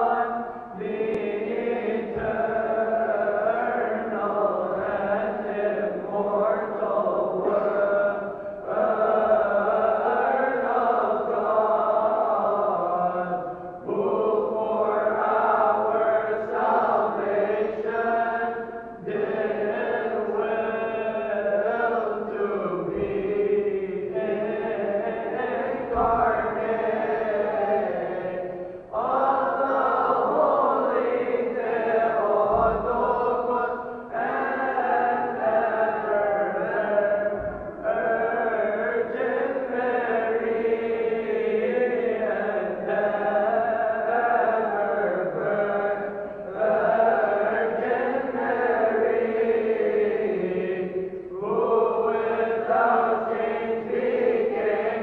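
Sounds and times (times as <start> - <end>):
choir chanting a hymn: 0.0 - 55.0.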